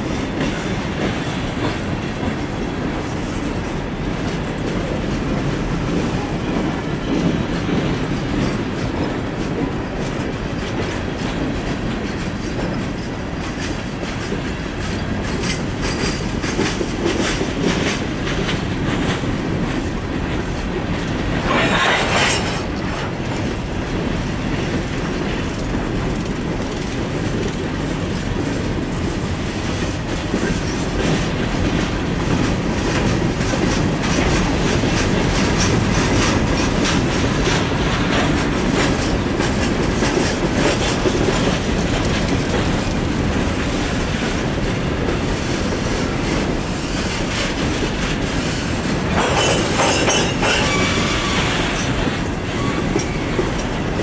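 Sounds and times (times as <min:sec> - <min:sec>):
freight train rumbling past: 0:00.0 - 0:54.0
wheels clattering on rails: 0:00.0 - 0:54.0.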